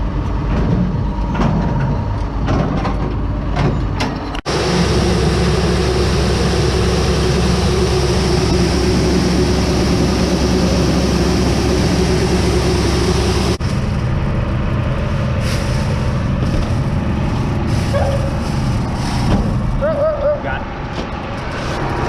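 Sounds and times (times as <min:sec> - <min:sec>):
heavy farm machinery running: 0:00.0 - 0:22.0.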